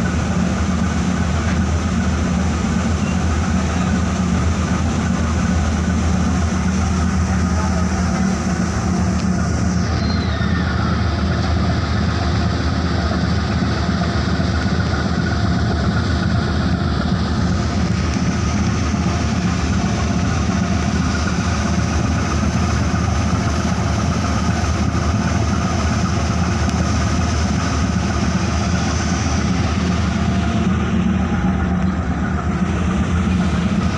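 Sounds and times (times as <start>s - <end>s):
ferry engines droning: 0.0s - 33.9s
water churning along hull: 0.0s - 33.9s.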